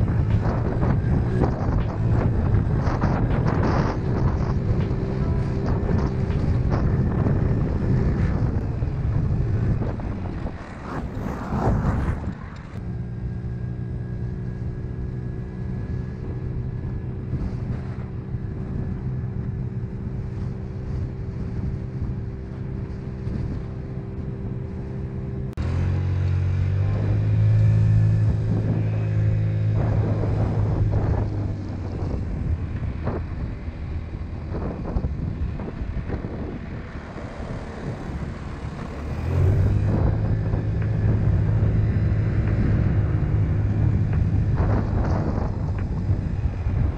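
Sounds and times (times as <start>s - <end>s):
scooter engine humming: 0.0s - 46.9s
wind buffeting microphone: 0.0s - 46.9s.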